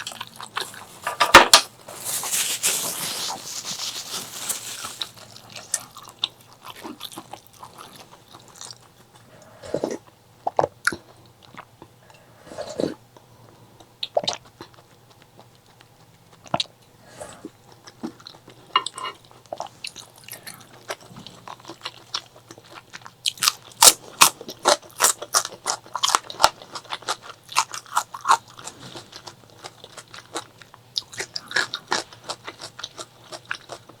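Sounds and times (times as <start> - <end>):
chewing and crunching food: 0.0 - 34.0.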